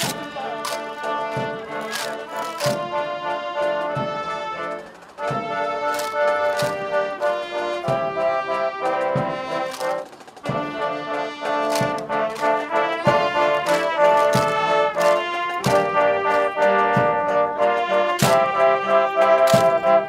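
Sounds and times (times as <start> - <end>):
brass instruments over a beat: 0.0 - 20.0.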